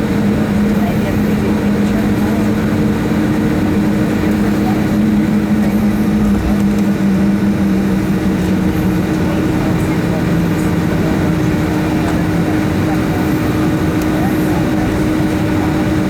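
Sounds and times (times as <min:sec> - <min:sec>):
airplane cabin engine hum: 0:00.0 - 0:16.0.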